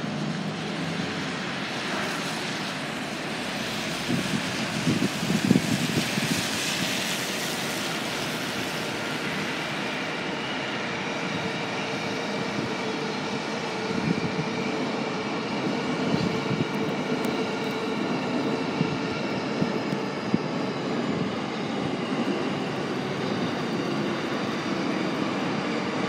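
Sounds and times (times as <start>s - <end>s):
wind gusts on microphone: 0.4s - 26.0s.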